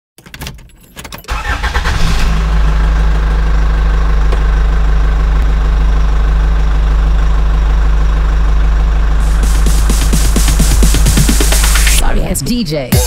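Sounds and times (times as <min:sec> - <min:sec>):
model truck engine starting: 0:01.3 - 0:12.0.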